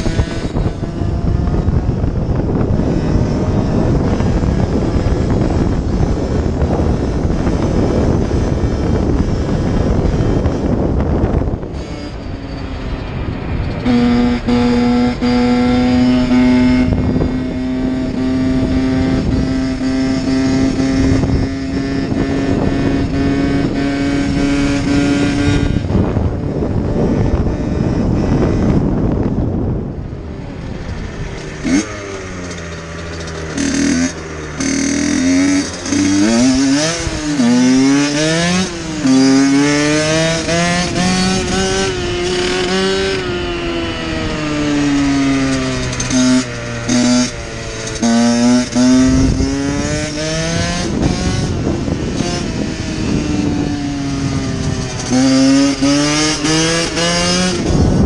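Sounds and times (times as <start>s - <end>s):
dirt bike engine revving: 0.0s - 29.8s, 30.6s - 58.0s
wind rushing over microphone: 0.0s - 58.0s.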